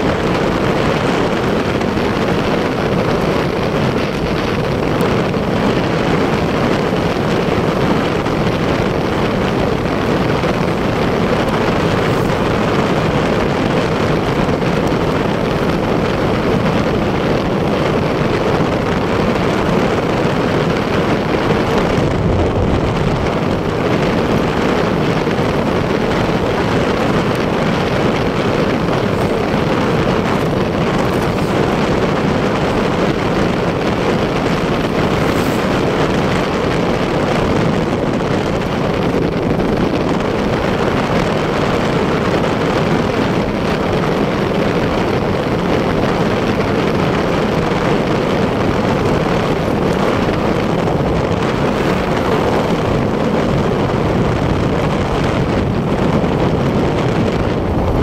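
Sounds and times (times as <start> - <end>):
motorcycle engine: 0.0 - 58.0
wind rushing over microphone: 0.0 - 58.0.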